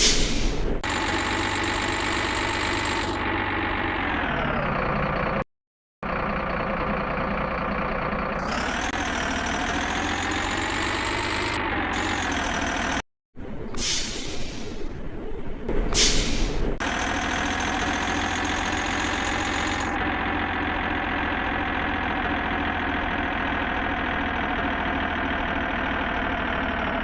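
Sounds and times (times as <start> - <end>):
truck engine running: 0.0 - 5.4, 6.0 - 27.0.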